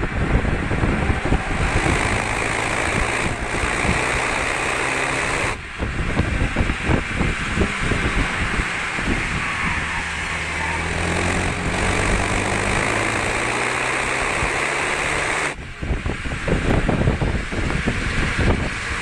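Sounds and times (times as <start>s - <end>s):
car engine running hard: 0.0s - 19.0s
wind and tyre noise: 0.0s - 19.0s.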